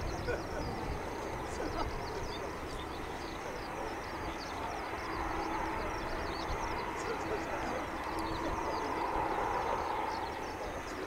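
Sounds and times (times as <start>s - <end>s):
distant jet engine rumble: 0.0s - 11.0s.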